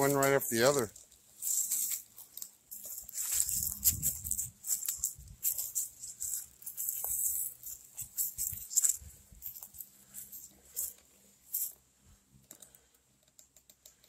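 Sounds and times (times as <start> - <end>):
footsteps on dry leaves: 0.0 - 11.8.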